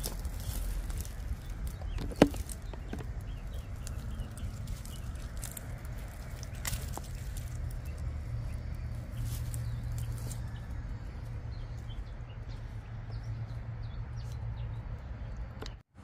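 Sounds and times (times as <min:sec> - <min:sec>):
dry leaves crackling: 0:00.0 - 0:15.1.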